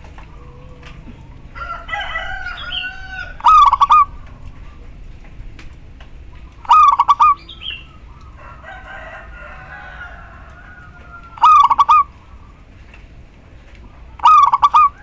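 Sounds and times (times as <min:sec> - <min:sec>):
dove rattling call: 0:00.0 - 0:15.0
faint background bird call: 0:00.0 - 0:15.0.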